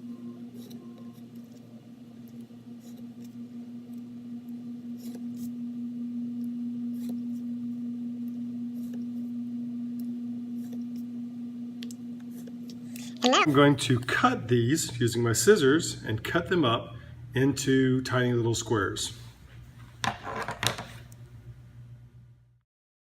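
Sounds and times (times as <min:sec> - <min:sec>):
low electrical hum: 0:00.0 - 0:22.6.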